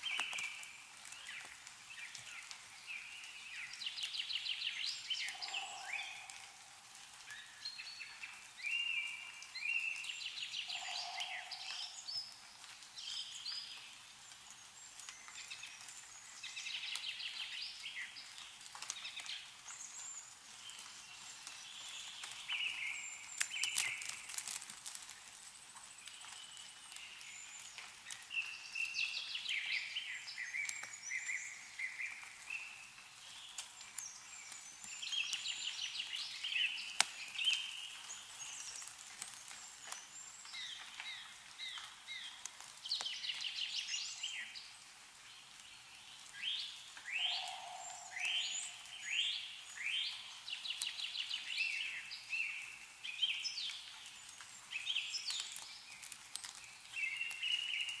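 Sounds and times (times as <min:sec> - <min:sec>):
melting snow dripping from trees: 0:00.0 - 0:58.0
songbirds singing: 0:00.0 - 0:58.0.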